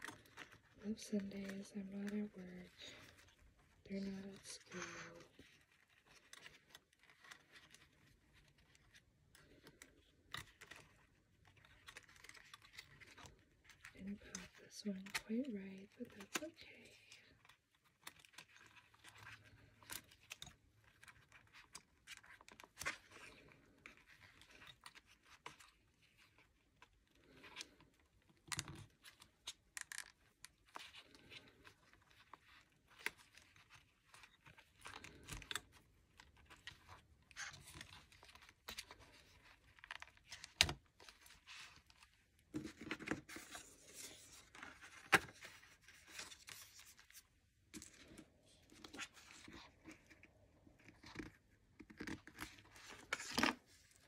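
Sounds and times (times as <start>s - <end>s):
plastic and paper rustling: 0.0s - 54.0s.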